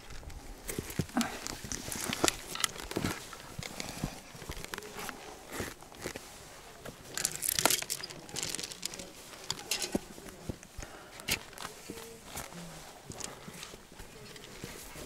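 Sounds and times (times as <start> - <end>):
clothing and pack rustling: 0.0 - 15.0.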